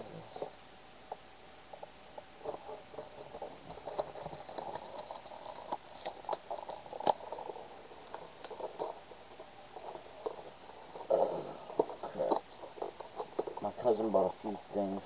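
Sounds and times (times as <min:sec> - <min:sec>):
cardboard and plastic wrap crinkling: 0:01.8 - 0:14.6.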